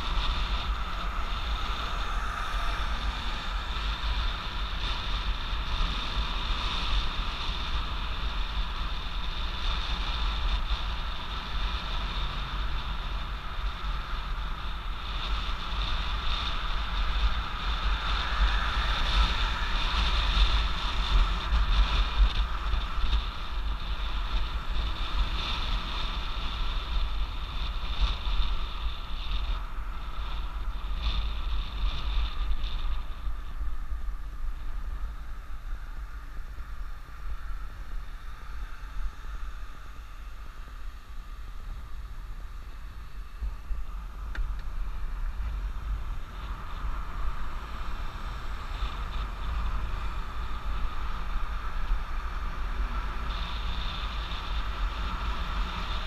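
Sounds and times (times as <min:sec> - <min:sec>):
hub motor whine: 0:00.0 - 0:56.0
road noise: 0:00.0 - 0:56.0
wind rumble on microphone: 0:00.0 - 0:56.0.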